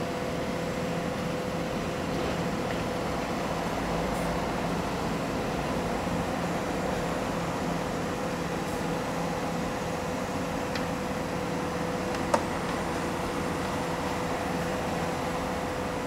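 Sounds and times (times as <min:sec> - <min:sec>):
diesel machinery humming: 0:00.0 - 0:16.0.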